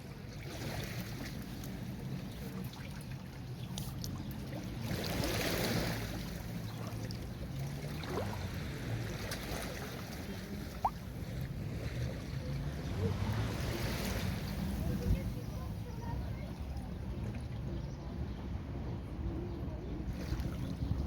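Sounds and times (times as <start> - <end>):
sea waves washing onto beach: 0.0 - 17.4.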